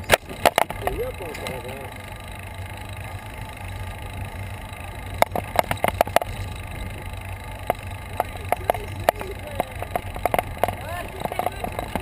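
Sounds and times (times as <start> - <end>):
bicycle road rumble: 0.0 - 12.0
sharp clicks and rattles: 0.0 - 12.0.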